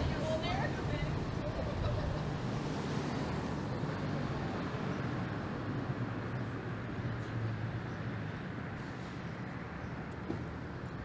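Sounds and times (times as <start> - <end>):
diesel engine rumbling: 0.0 - 11.0
road traffic noise: 0.0 - 11.0.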